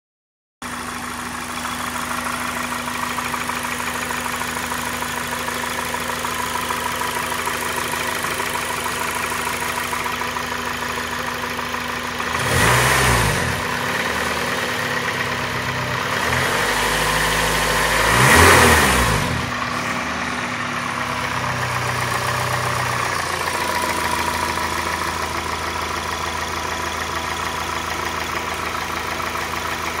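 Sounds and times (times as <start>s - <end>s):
car engine idling and revving: 0.6s - 30.0s.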